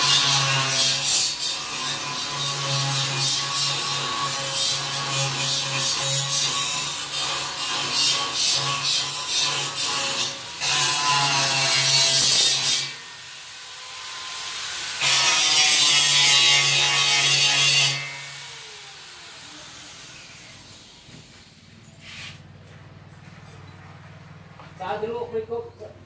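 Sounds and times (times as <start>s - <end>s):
power tool cutting wood: 0.0s - 21.4s.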